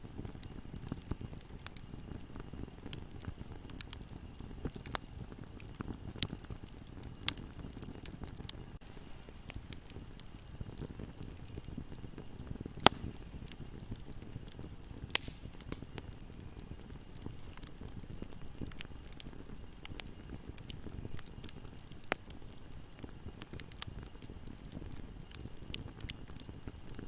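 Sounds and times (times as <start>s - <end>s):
burning wood crackling and popping: 0.0s - 27.0s
campfire flames rushing: 0.0s - 27.0s.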